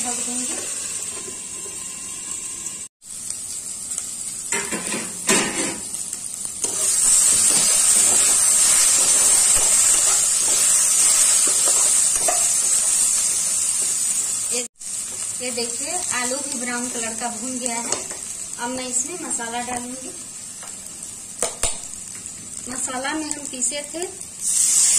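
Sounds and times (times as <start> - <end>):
potatoes sizzling in oil: 0.0 - 24.9.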